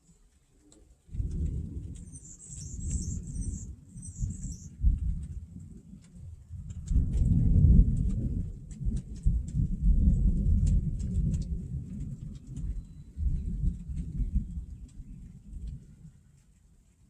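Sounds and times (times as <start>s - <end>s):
light ticks: 0.0s - 17.0s
thunder rumbling: 1.1s - 16.2s.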